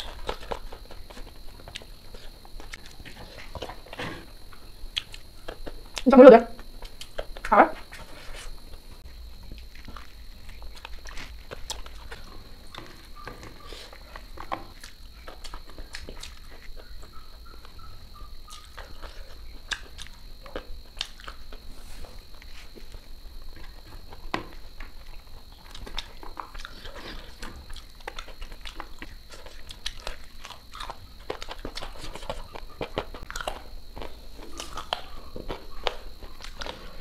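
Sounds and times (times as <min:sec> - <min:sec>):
person chewing: 0:00.0 - 0:37.0.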